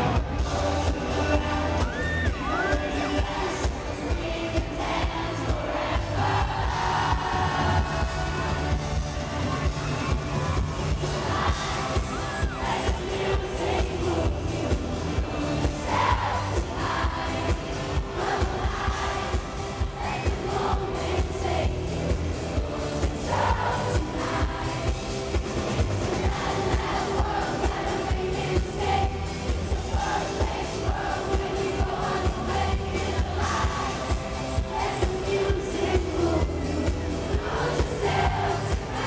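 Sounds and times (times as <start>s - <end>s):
steady drum beat: 0.0s - 39.0s.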